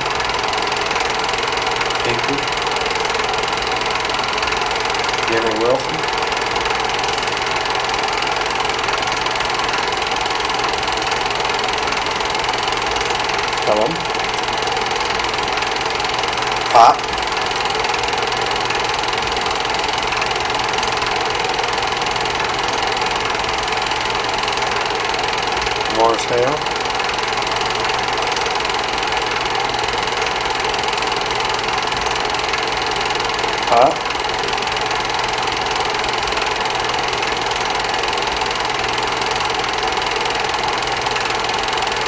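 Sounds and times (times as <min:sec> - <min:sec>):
machine clattering steadily: 0:00.0 - 0:42.0.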